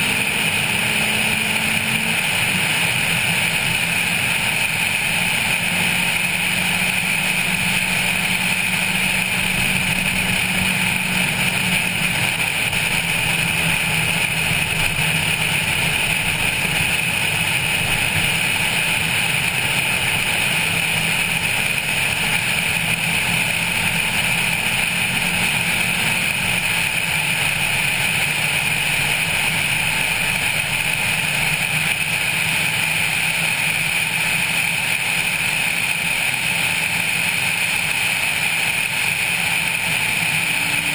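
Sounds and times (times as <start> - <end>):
low engine note: 0.0 - 40.9
wind and road noise: 0.0 - 40.9.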